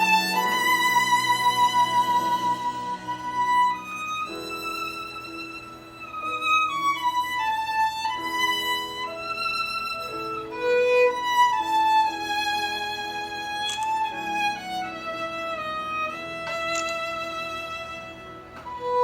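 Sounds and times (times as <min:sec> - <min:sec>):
violin slow melody: 0:00.0 - 0:19.0.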